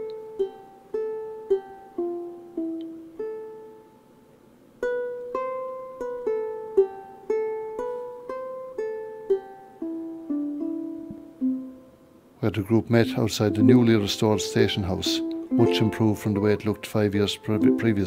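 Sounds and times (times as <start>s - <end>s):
plucked string instrument tune: 0.0s - 4.0s, 4.8s - 18.0s.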